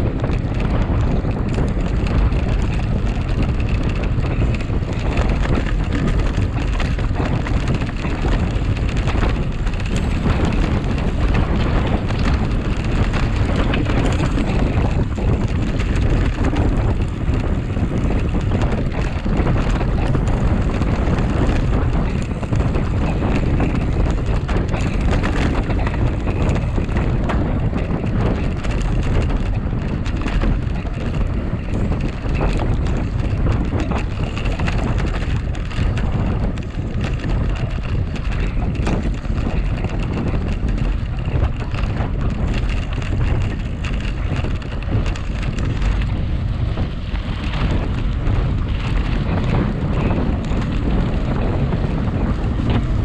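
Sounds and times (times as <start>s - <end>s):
bike rattles and knocks: 0.0s - 53.0s
bike tyre noise: 0.0s - 53.0s
wind buffeting microphone: 0.0s - 53.0s.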